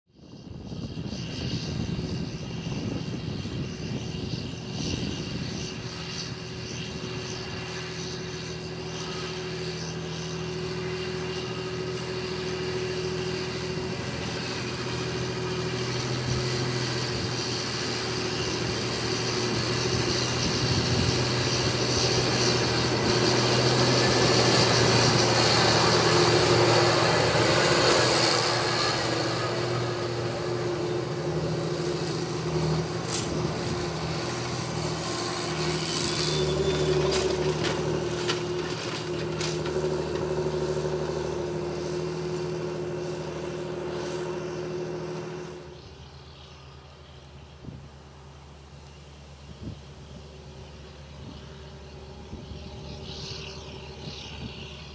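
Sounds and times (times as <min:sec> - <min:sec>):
tractor diesel engine running: 0:01.6 - 0:54.9.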